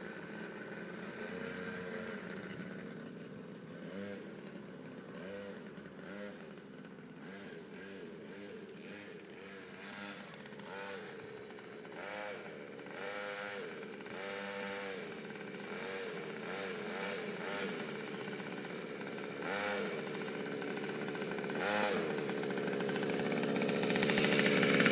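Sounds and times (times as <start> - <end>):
quad bike engine revving: 0.0 - 24.9.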